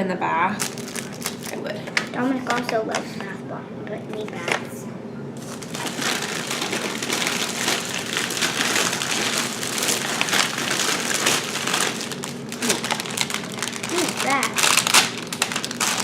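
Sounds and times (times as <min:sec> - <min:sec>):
plastic packaging crinkling: 0:00.6 - 0:02.8, 0:05.4 - 0:16.0.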